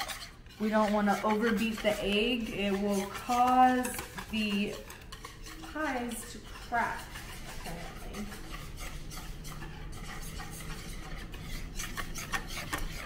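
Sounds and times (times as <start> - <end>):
hand whisk scraping a bowl: 0.0 - 13.0.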